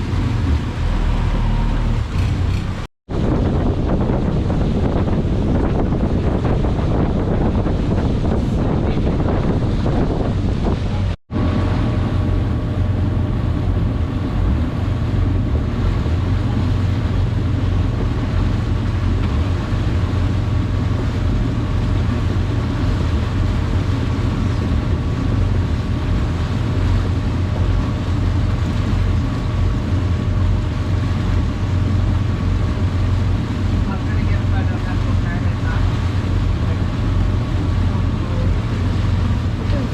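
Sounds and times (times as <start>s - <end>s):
motorboat engine running: 0.0s - 39.9s
water rushing past hull: 0.0s - 39.9s
wind buffeting microphone: 0.0s - 39.9s.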